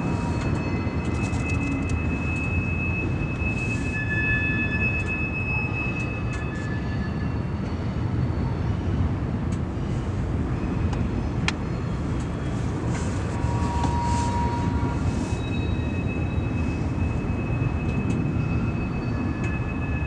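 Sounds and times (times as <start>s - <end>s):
high wheel squeals: 0.0s - 9.1s, 9.8s - 20.0s
train wheels rumbling on rail: 0.0s - 20.0s.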